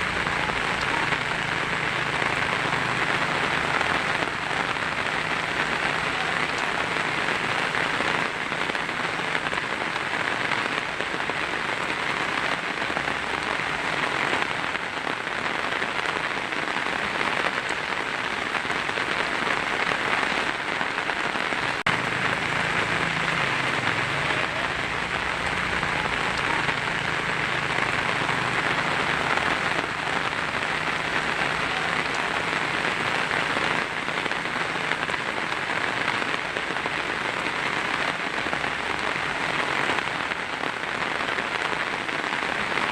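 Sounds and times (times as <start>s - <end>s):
heavy rain on a tin roof: 0.0s - 42.9s.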